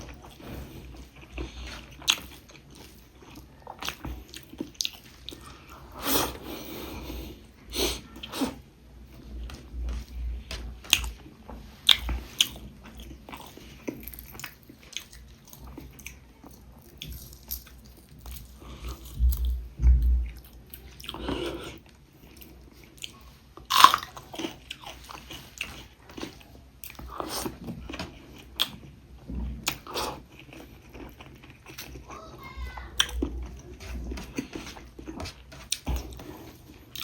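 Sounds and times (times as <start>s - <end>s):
chewing food: 0.0s - 6.4s, 8.1s - 37.0s.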